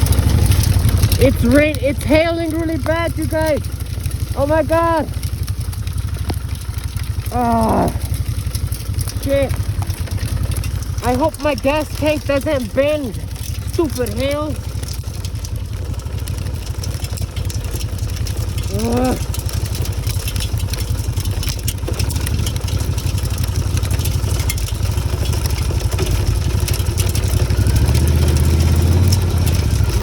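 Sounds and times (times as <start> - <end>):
hail ticking on motorcycle: 0.0 - 30.0
motorcycle engine running: 0.0 - 30.0.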